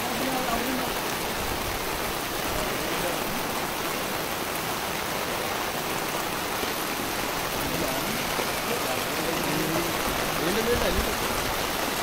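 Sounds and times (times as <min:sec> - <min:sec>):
heavy rain on water: 0:00.0 - 0:12.0.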